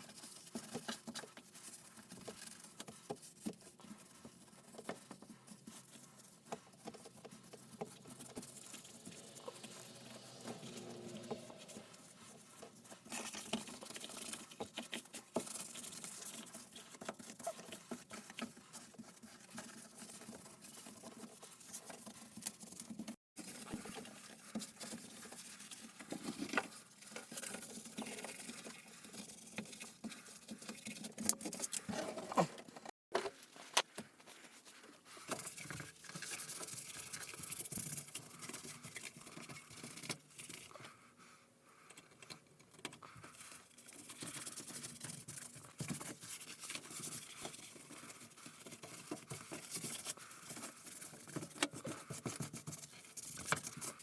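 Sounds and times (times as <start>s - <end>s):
scratching and rustling of hand work: 0.0s - 54.0s.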